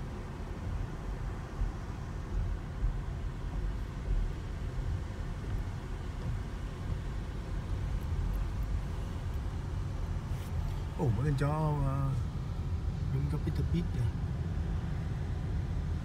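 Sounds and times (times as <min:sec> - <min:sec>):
car interior engine and tyre rumble: 0:00.0 - 0:16.0.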